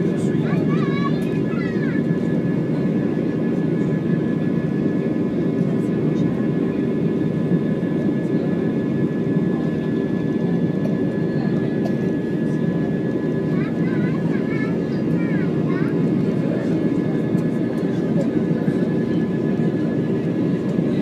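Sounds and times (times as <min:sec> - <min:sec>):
jet engine and airflow rush: 0:00.0 - 0:21.0.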